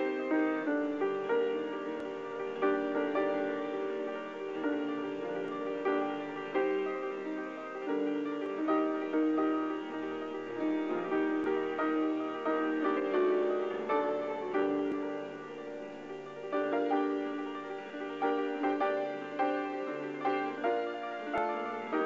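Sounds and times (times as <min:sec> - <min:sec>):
slow piano-like keyboard music: 0:00.0 - 0:22.0.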